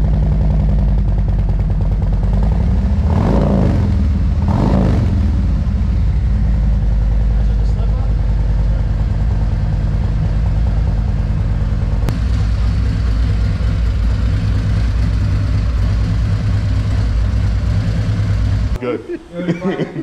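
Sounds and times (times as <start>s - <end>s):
motorcycle engine idling: 0.0s - 18.8s.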